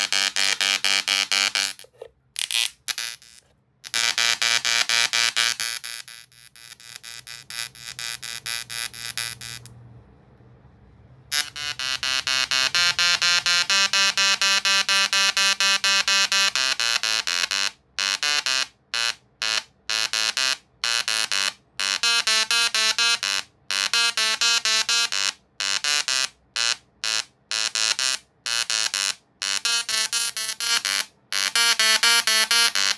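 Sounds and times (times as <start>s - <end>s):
tesla coil buzzing: 0.0s - 9.7s, 11.3s - 32.9s.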